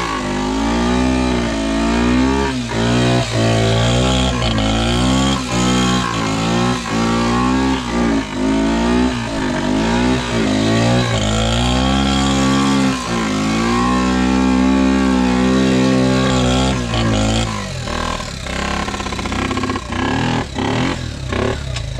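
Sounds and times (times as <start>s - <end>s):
atv engine revving: 0.0s - 21.9s
rough engine clattering: 0.0s - 21.9s.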